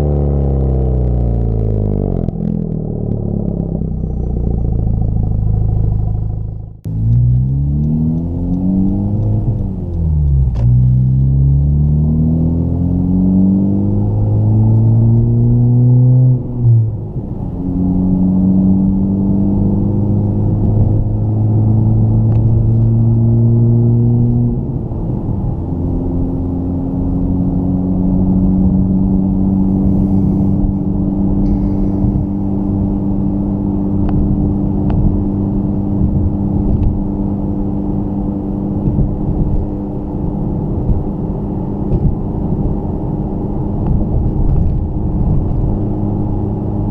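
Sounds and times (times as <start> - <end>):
car engine accelerating through gears: 0.0 - 46.9
low exhaust drone: 0.0 - 46.9.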